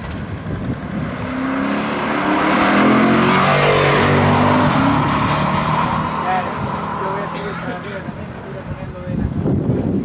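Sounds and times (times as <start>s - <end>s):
car engine accelerating: 0.0s - 8.7s.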